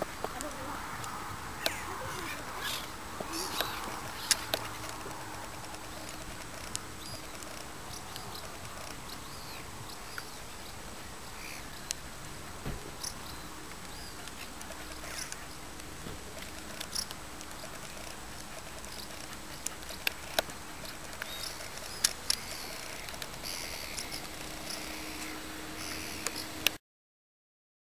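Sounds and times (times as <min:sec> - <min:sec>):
steady low hiss: 0:00.0 - 0:26.8.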